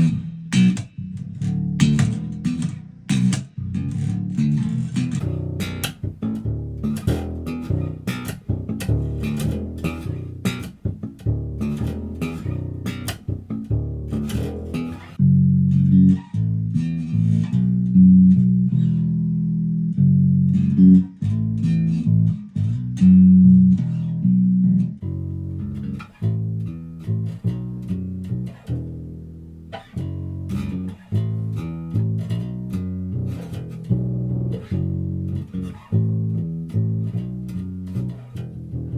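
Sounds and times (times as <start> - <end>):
plucked electric bass notes: 0.0 - 38.9.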